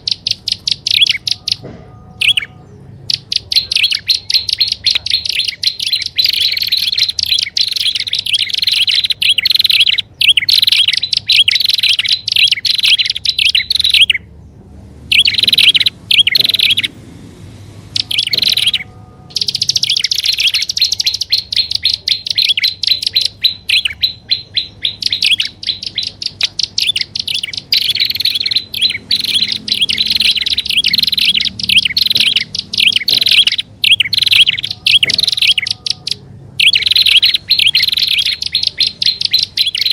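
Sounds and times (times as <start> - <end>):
bird high sharp chirps: 0.0 - 14.4, 15.0 - 39.9.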